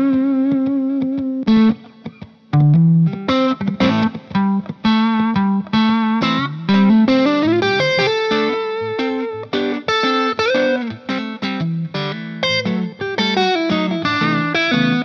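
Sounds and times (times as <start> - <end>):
guitar playing separate notes: 0.0 - 15.0.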